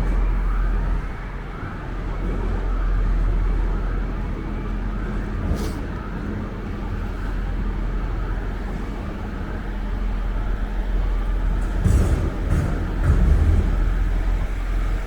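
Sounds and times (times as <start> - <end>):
distant siren wailing: 0.0 - 15.0
traffic engine rumble: 0.0 - 15.0.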